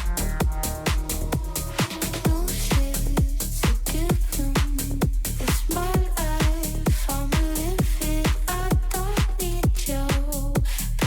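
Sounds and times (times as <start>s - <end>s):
four-on-the-floor kick drum: 0.0s - 11.0s.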